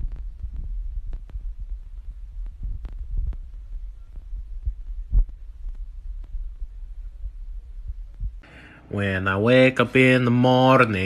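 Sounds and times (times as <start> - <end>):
low rumbling: 0.0 - 9.5.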